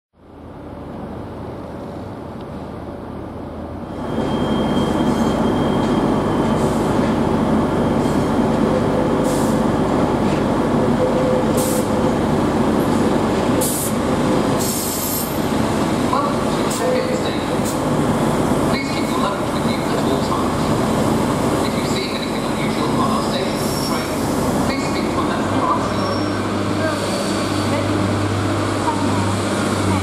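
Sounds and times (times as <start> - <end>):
train engine and wheels rumbling: 0.2 - 30.0.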